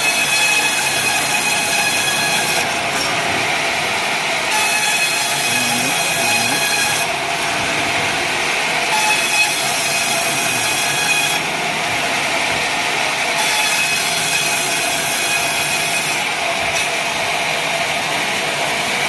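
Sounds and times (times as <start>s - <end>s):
saw cutting timber hissing: 0.0s - 19.0s
sawmill saw running: 0.0s - 19.0s.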